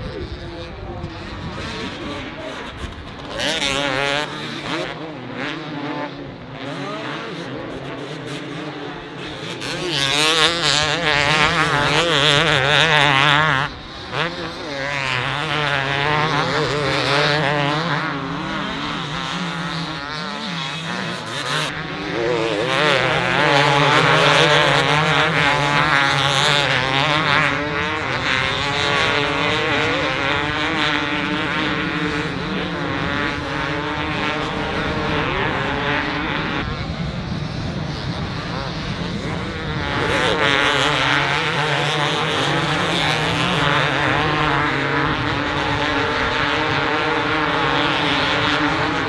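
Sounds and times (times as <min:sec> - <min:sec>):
motocross bikes revving: 0:00.0 - 0:49.0.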